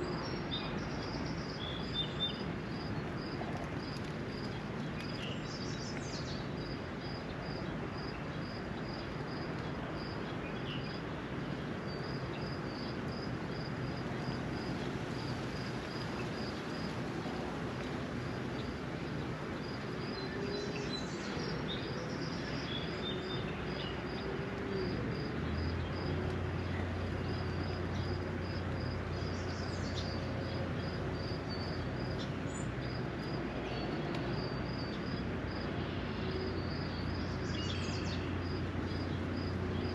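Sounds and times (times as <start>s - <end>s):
rain pattering: 2.4s - 35.8s.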